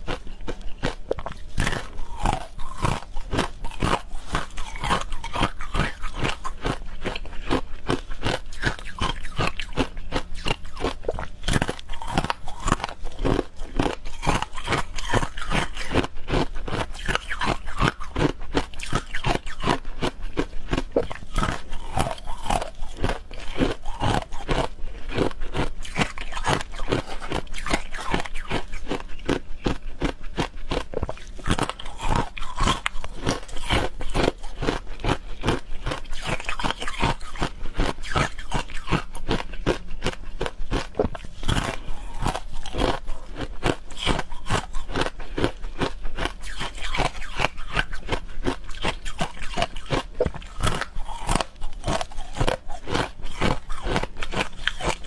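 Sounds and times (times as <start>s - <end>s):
crunching and chewing ice: 0.0s - 55.0s.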